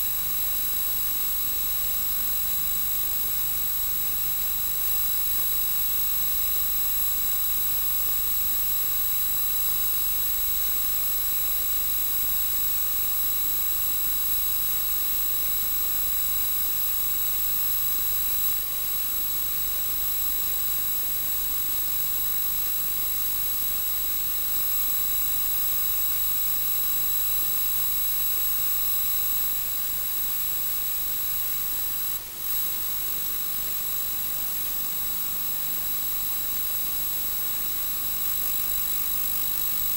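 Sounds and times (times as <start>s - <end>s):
projector motor whine: 0.0s - 39.9s.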